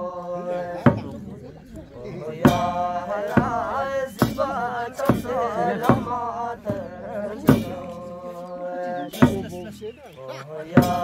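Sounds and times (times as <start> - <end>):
frame drum beat: 0.0 - 9.9, 10.6 - 11.0
ritual chanting: 0.0 - 11.0.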